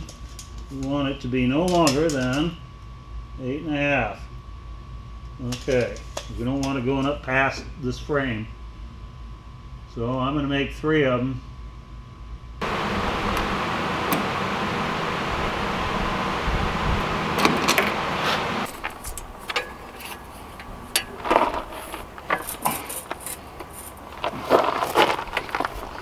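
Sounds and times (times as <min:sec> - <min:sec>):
fan hum: 0:00.0 - 0:26.0.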